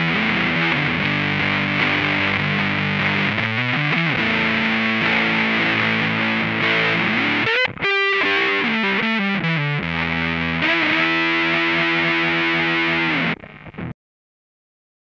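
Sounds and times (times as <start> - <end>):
electric guitar fuzz notes: 0.0 - 14.0.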